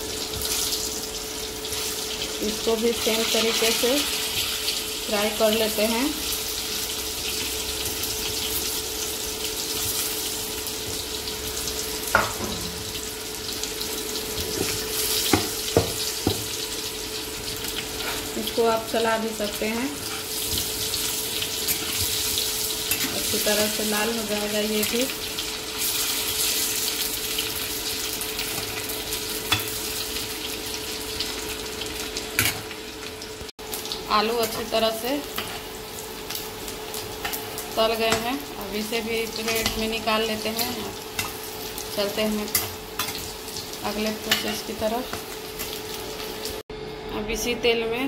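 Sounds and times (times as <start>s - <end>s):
potatoes sizzling in oil: 0.0s - 46.6s.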